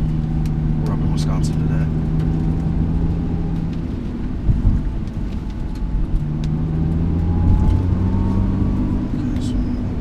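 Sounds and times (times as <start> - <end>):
car engine at light throttle: 0.0 - 10.0
tyre noise on wet road: 0.0 - 10.0.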